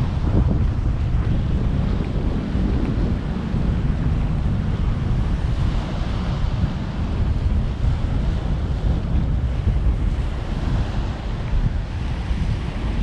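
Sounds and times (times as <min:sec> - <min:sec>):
ocean waves surging: 0:00.0 - 0:13.0
wind buffeting microphone: 0:00.0 - 0:13.0.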